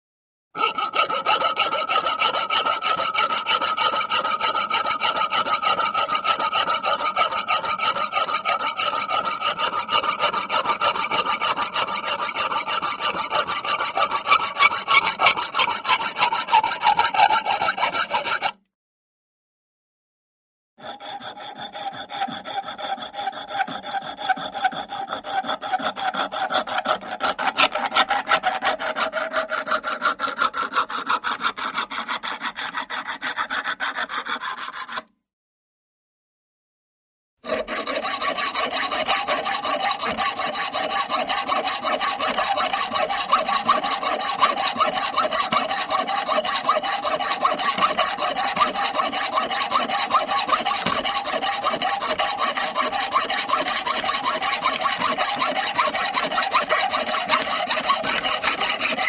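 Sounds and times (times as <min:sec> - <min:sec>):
handsaw sawing: 0:00.6 - 0:18.7, 0:20.8 - 0:35.1, 0:37.4 - 0:59.0.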